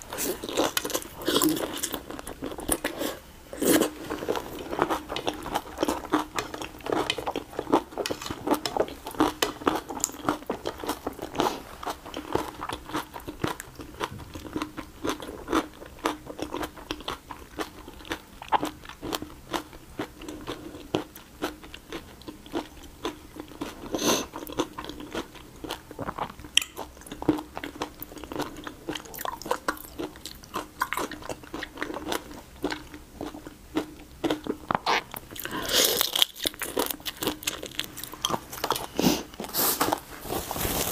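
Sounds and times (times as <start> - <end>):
chewing and crunching shrimp: 0.0 - 40.1.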